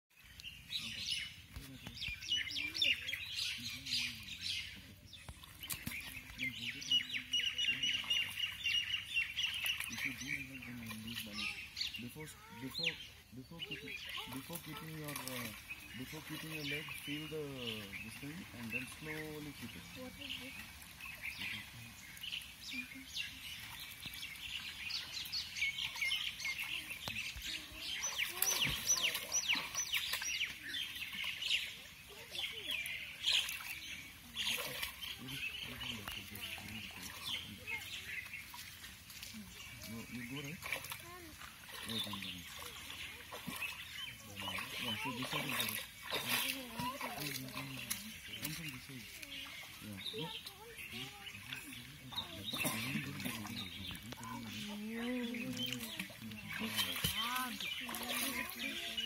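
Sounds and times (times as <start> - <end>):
birds chirping and calling: 0.1 - 59.0.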